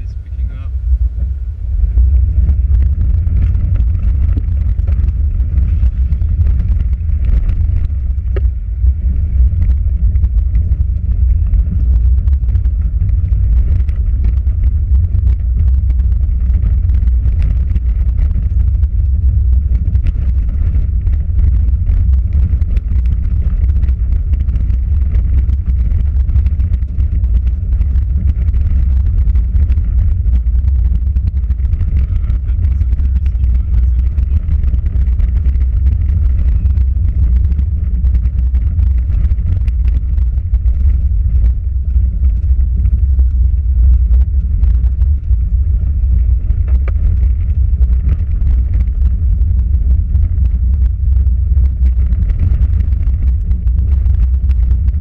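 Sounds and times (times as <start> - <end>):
car cabin low rumble: 0.0 - 55.0
ticks and rattles: 2.0 - 55.0.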